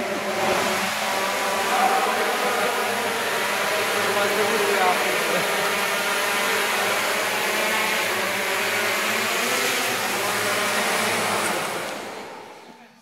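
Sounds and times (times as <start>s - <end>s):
drone propellers buzzing: 0.0s - 12.9s.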